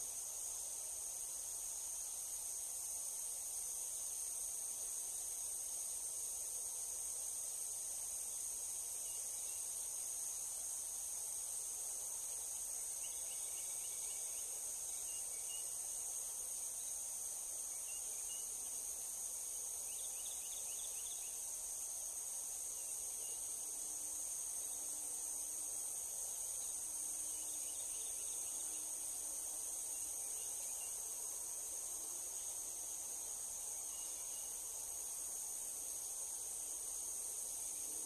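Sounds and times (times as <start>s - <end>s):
insects chorus: 0.0s - 38.0s.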